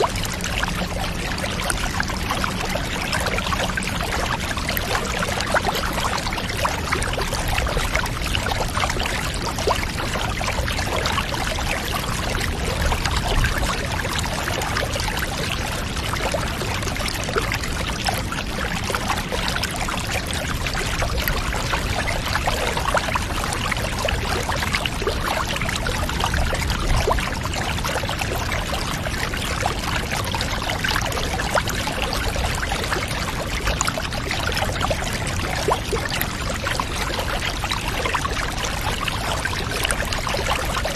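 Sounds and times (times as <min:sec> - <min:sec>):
water pouring and trickling: 0:00.0 - 0:40.9.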